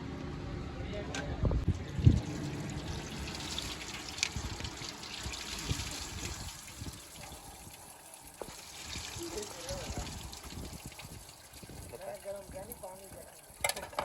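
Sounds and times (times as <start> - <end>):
liquid pouring: 1.8 - 14.0.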